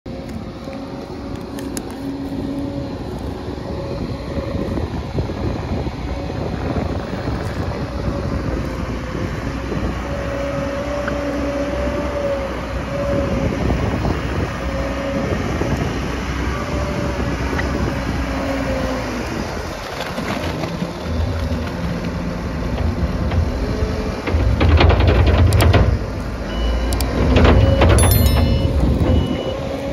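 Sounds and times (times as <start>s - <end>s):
diesel engine running under load: 0.1s - 29.9s.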